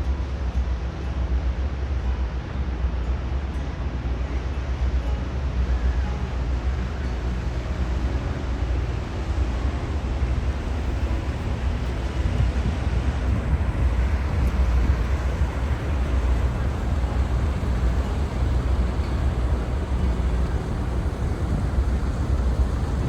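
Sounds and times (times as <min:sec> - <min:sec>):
wind noise on microphone: 0:00.0 - 0:23.0
boat engine droning: 0:02.3 - 0:23.0.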